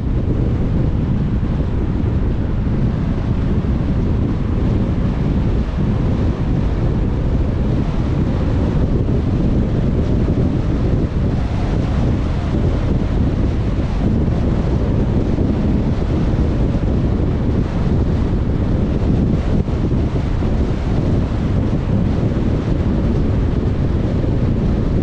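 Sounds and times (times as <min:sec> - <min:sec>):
car road and wind noise: 0:00.0 - 0:25.0.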